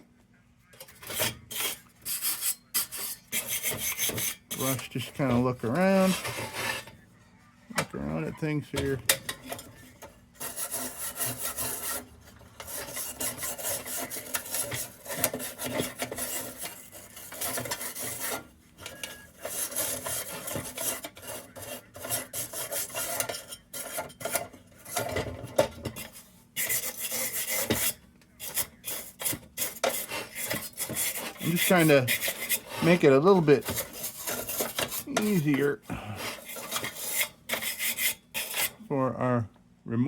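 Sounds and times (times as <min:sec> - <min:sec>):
brush scrubbing metal: 0:01.1 - 0:06.9, 0:10.4 - 0:25.2, 0:25.8 - 0:38.8.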